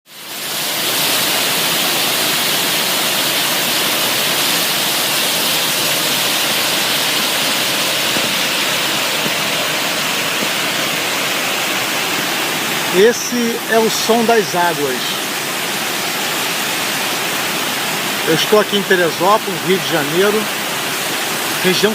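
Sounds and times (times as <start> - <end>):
rushing water: 0.1 - 21.9.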